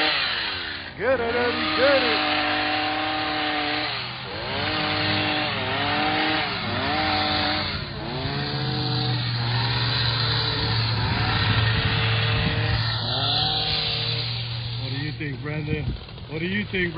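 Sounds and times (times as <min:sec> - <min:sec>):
two-stroke trimmer engine bogging: 0:00.0 - 0:16.9.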